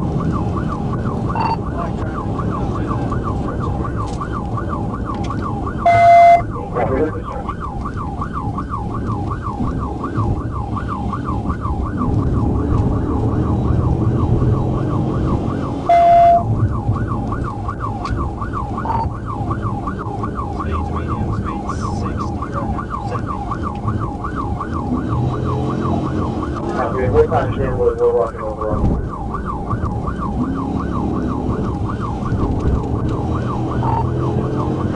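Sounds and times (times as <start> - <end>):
car engine and road noise: 0.0 - 34.9
loud steady siren tone: 0.0 - 34.9
police siren yelping: 0.0 - 34.9.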